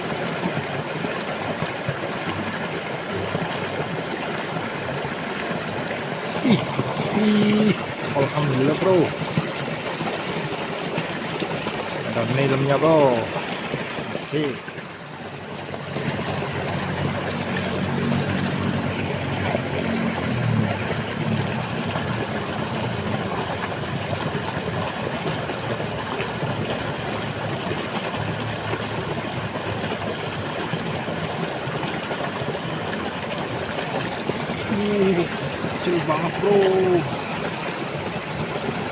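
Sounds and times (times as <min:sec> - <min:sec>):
low engine hum: 0:00.0 - 0:38.9
water rushing in a ditch: 0:00.0 - 0:38.9.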